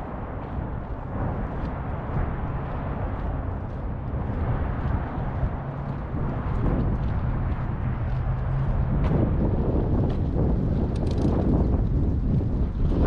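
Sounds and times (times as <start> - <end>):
faint engine hum: 0.0 - 13.0
traffic rumble: 0.0 - 13.0
wind buffeting microphone: 0.0 - 13.0.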